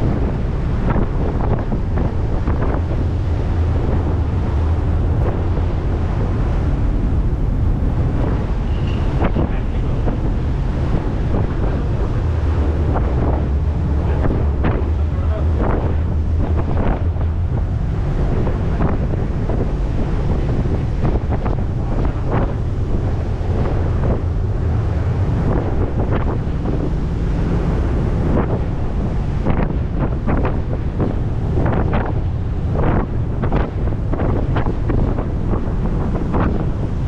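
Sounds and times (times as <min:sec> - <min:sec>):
low engine rumble: 0:00.0 - 0:37.0
water rushing along hull: 0:00.0 - 0:37.0
wind buffeting microphone: 0:00.0 - 0:37.0.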